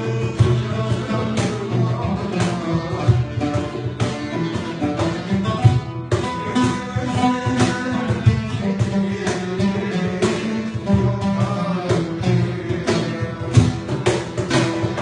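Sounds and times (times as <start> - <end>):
acoustic guitar: 0.0 - 15.0
hand drum hits: 0.0 - 15.0
plucked oud: 0.0 - 15.0.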